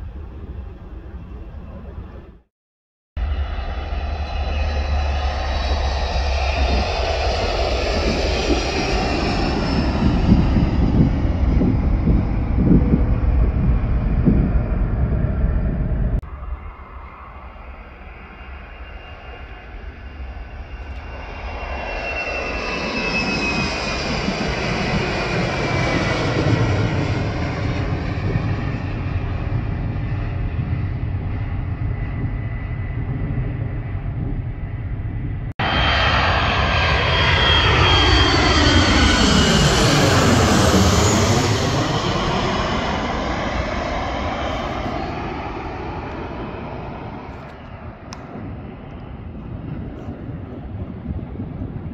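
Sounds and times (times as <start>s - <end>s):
jet airliner passing by: 0.0s - 2.5s, 3.2s - 51.9s
jet engines roaring at takeoff: 0.0s - 2.5s, 3.2s - 51.9s.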